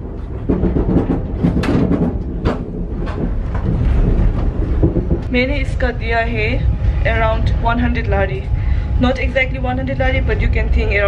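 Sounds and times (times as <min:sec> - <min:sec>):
sharp train clacks: 0:00.0 - 0:10.8
train rumble inside carriage: 0:00.0 - 0:11.0.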